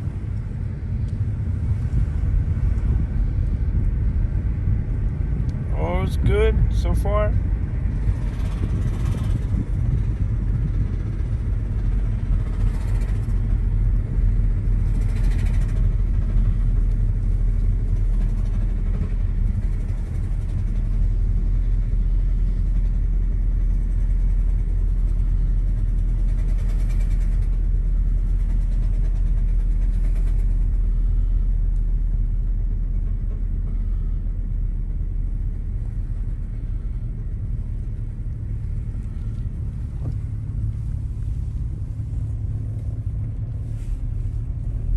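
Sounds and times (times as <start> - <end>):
low rumbling drone inside car: 0.0 - 44.9.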